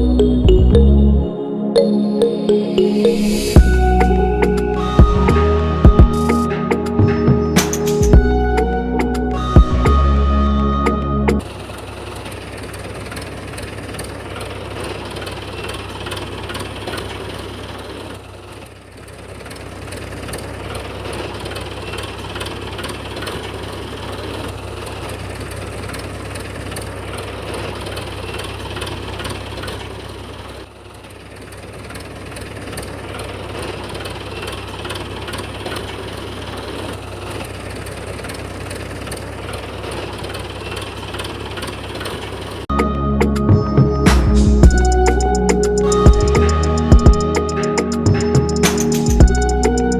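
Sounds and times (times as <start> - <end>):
engine running steadily: 0.0 - 1.3, 3.0 - 49.9.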